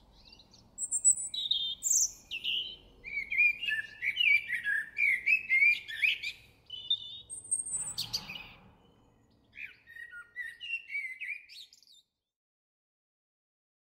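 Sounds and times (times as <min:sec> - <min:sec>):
blackbird singing: 0:00.0 - 0:12.1.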